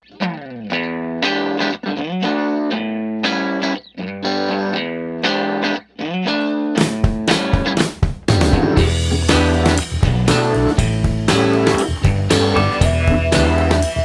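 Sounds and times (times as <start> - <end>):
distorted electric guitar: 0.0 - 14.0.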